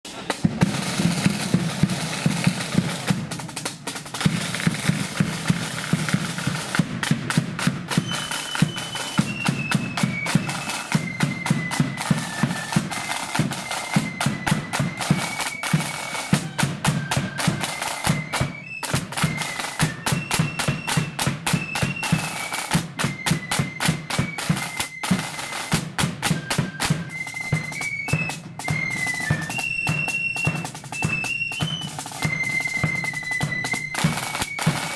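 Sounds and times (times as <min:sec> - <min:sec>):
marching drums: 0:00.0 - 0:34.9
flutes playing high melody: 0:00.4 - 0:34.9.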